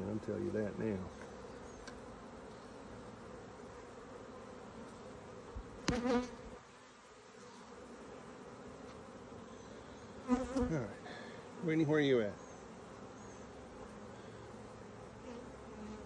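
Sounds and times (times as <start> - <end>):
honey bees humming: 0.0 - 16.0.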